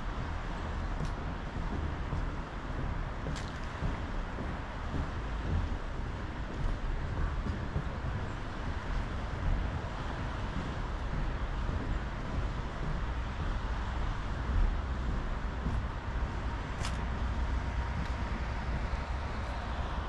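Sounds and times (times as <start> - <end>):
road traffic rumbling hiss: 0.0 - 20.0.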